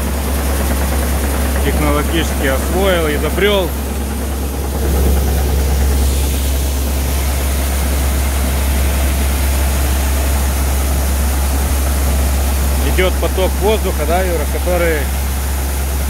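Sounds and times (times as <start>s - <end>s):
deep motor hum: 0.0s - 16.0s
fan air hiss: 0.0s - 16.0s.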